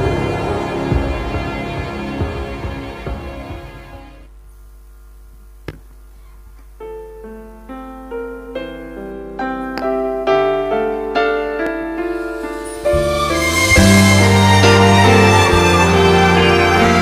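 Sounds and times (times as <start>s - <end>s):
piano-like keyboard notes: 0.0s - 4.3s, 6.8s - 17.0s.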